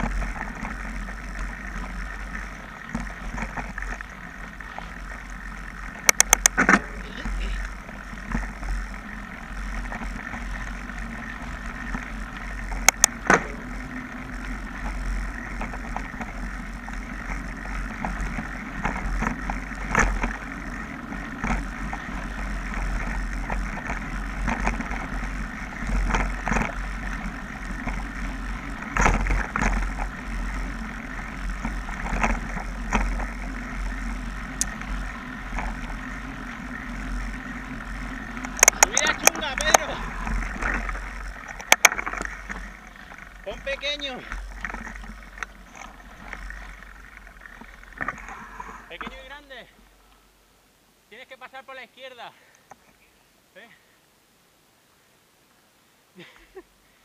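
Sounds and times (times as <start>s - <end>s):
sharp bike clicks: 0.0s - 49.4s
bike rattling over bumps: 0.0s - 53.0s
bike tyres rolling over dirt: 0.0s - 57.0s.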